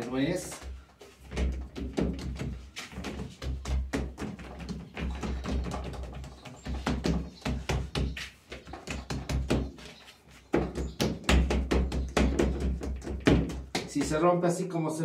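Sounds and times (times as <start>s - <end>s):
hands patting dough: 0.0s - 14.3s.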